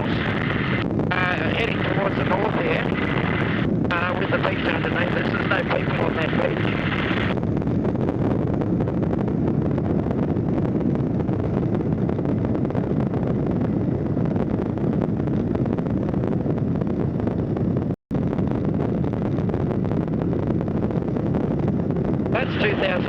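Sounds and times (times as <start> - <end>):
light aircraft engine drone: 0.0 - 23.0
wind rushing over microphone: 0.0 - 23.0.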